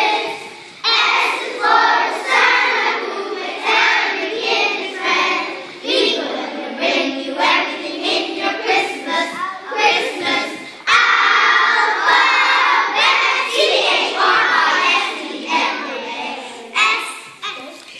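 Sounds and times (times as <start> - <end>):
children singing together: 0.0 - 17.5.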